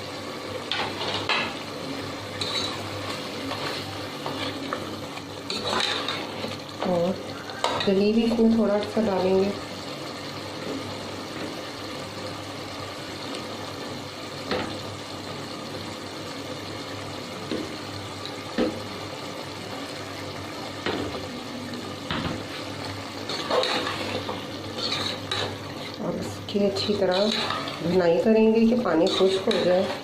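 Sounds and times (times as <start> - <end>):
curry bubbling and sizzling in pot: 0.0 - 30.0.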